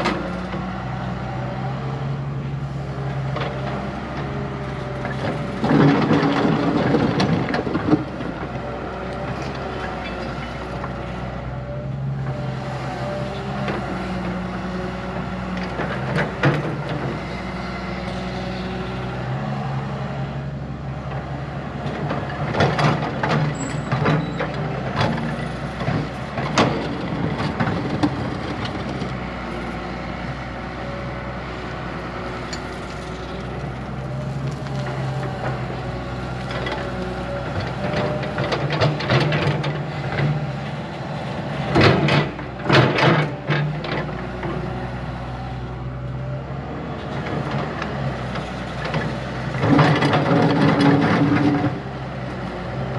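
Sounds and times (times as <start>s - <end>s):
diesel earthmoving machinery running: 0.0s - 52.9s.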